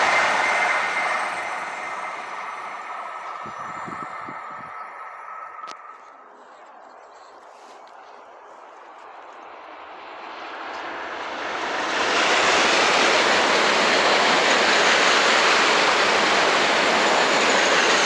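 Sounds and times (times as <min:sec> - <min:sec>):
high-speed train passing: 0:00.0 - 0:18.0
rushing air and wheels on rail: 0:00.0 - 0:18.0.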